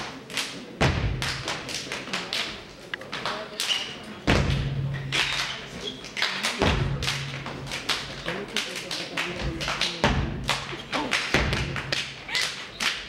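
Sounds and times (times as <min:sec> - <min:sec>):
sharp claps: 0:00.0 - 0:13.0.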